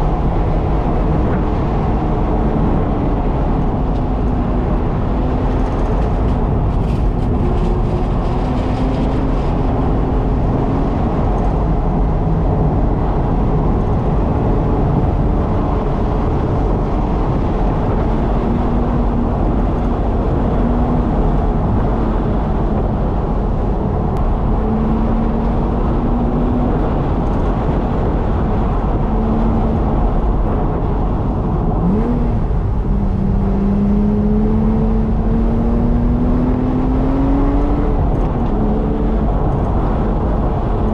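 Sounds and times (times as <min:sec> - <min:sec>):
car road and engine noise: 0:00.0 - 0:40.9.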